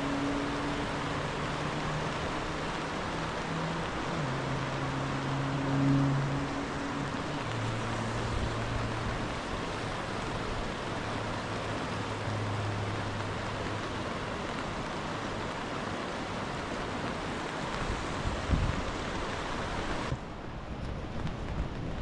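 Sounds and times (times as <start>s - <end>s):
rushing water hiss: 0.0s - 22.0s.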